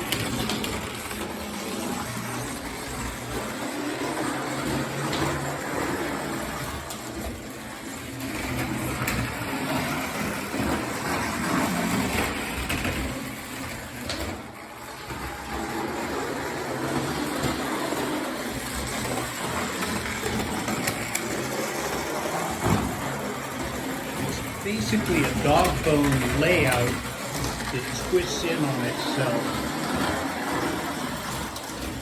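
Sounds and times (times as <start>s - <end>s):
toy electric motor whirring: 0.0s - 32.0s
toy wheels rolling on track: 0.0s - 32.0s.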